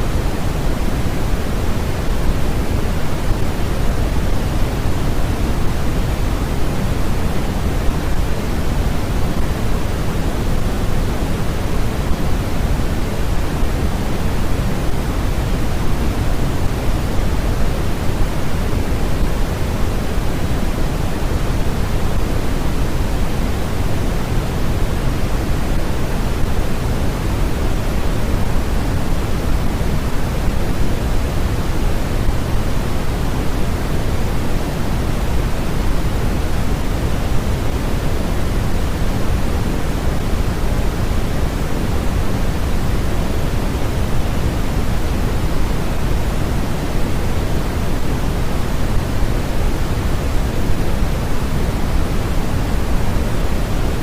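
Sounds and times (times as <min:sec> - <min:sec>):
pink noise: 0:00.0 - 0:54.0.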